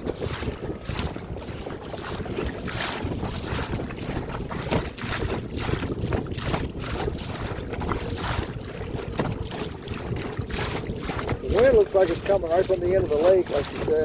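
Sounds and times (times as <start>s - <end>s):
water lapping against boat hull: 0.0s - 14.0s
wind buffeting microphone: 0.0s - 14.0s.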